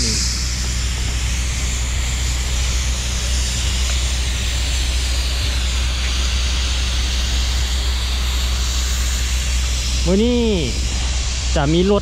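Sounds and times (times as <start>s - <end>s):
continuous low rumble: 0.0s - 12.0s
even hiss: 0.0s - 12.0s.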